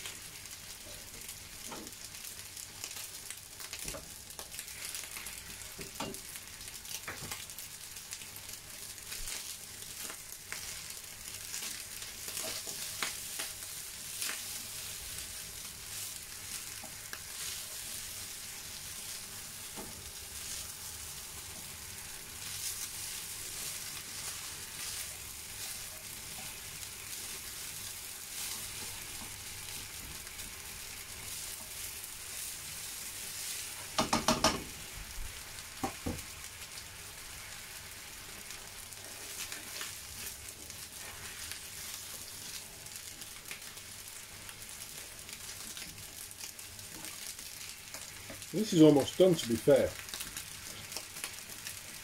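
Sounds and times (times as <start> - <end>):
rice sizzling in a pan: 0.0 - 52.0.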